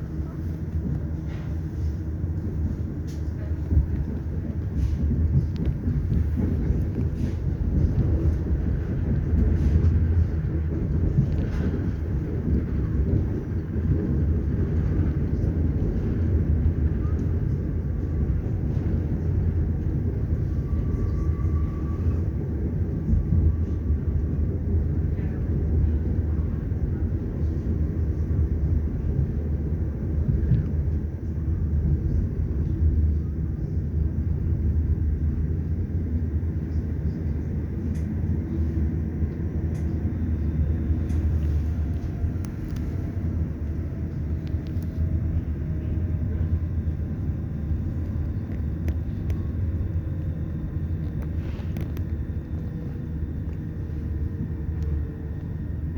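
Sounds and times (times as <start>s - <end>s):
train rumbling along track: 0.0s - 55.9s.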